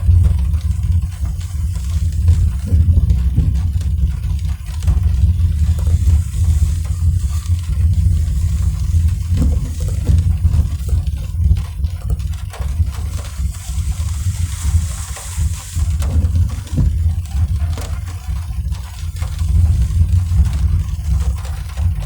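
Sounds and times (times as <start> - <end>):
rain hitting car: 0.0 - 22.0.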